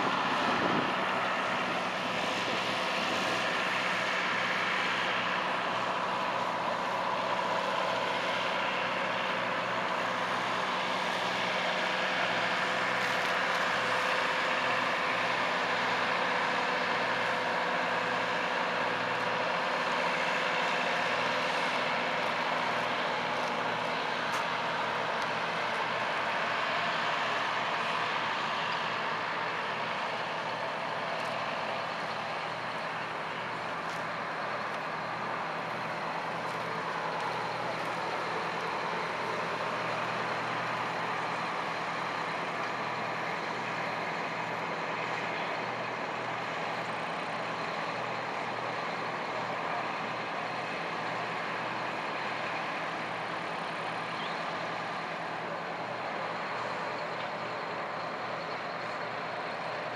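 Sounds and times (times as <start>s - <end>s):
tow tractor engine running: 0.0s - 59.9s.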